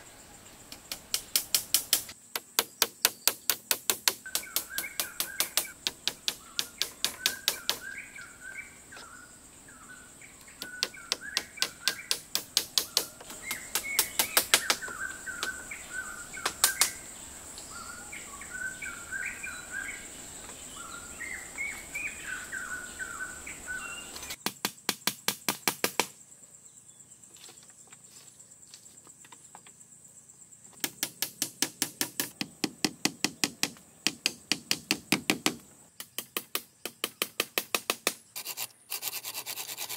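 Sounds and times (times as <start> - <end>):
songbirds chirping: 0.0 - 24.5, 26.2 - 31.5, 32.2 - 37.5.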